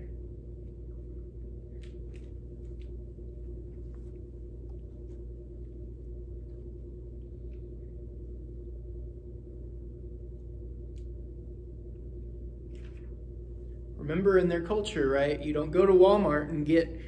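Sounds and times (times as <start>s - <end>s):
low room hum with held tone: 0.0s - 17.0s.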